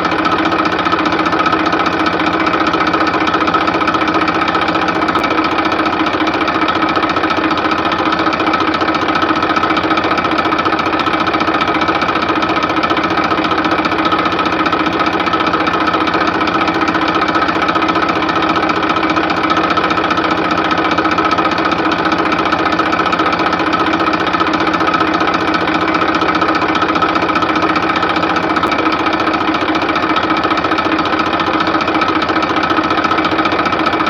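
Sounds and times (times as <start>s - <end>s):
small tractor engine knocking: 0.0s - 34.0s.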